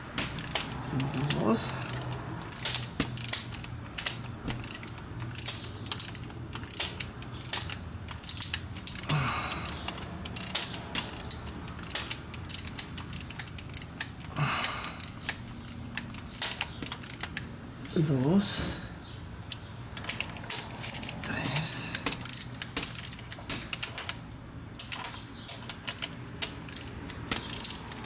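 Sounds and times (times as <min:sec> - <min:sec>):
ratchet wrench clicking: 0:00.0 - 0:17.5, 0:21.8 - 0:24.2, 0:24.8 - 0:28.0.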